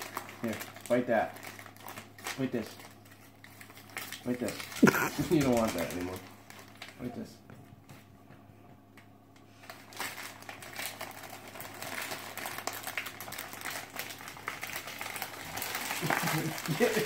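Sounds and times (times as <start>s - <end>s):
plastic wrapping rustling: 0.0s - 7.1s, 9.5s - 17.0s.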